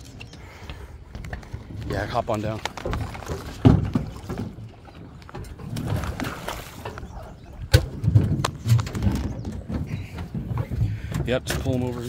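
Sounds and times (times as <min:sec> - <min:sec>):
fish thrashing and splashing: 0:01.3 - 0:11.2.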